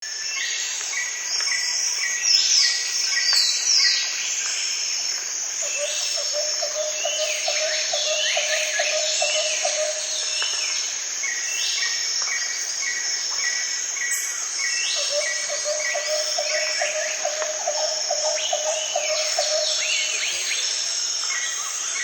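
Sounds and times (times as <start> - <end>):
high insect drone: 0.1 - 22.0.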